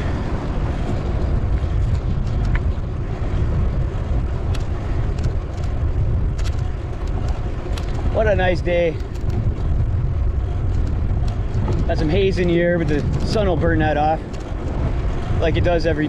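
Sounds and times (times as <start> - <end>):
motor traffic passing: 0.0 - 16.0
wind noise on microphone: 0.0 - 16.0.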